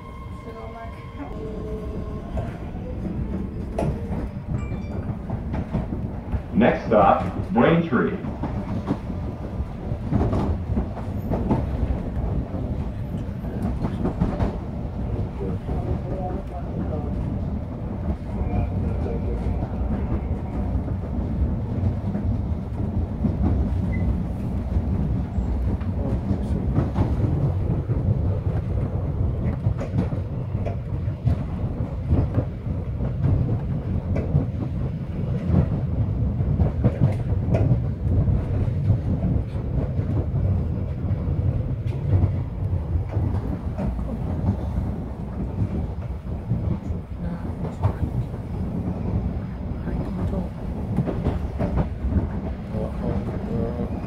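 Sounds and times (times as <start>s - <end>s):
subway car rumbling: 0.0s - 54.0s
wheels clacking on rails: 0.0s - 54.0s.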